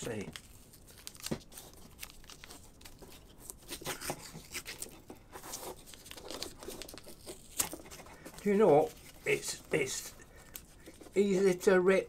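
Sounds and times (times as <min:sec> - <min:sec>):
tape peeling and tearing: 0:00.0 - 0:11.2
fingers rubbing tape on paper: 0:00.3 - 0:11.6.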